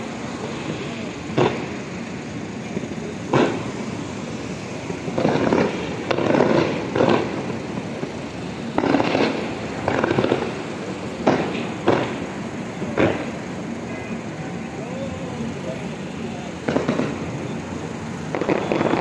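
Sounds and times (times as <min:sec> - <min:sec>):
fireworks bangs: 0:00.0 - 0:19.0
fireworks crackling bursts: 0:00.0 - 0:19.0.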